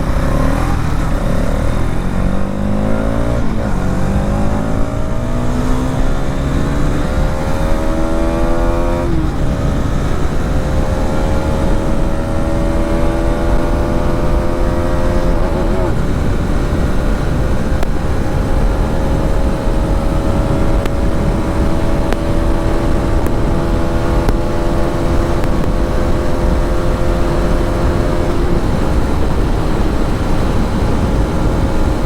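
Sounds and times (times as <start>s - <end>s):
motorcycle engine accelerating: 0.0s - 32.0s
road noise: 0.0s - 32.0s
wind noise: 0.0s - 32.0s.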